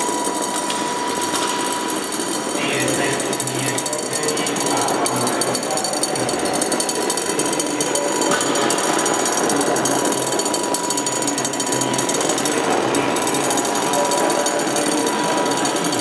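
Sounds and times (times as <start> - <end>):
rapid electronic clicking and crackling: 0.2 - 16.0.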